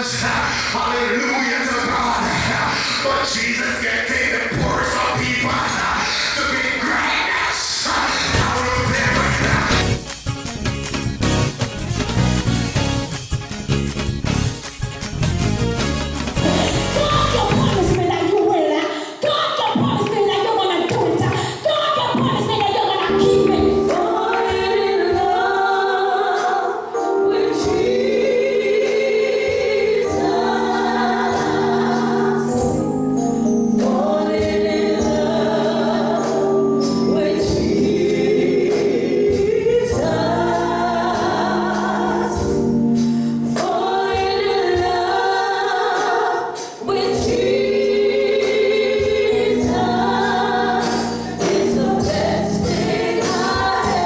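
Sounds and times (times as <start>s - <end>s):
gospel choir singing: 0.0s - 10.1s, 16.2s - 54.0s.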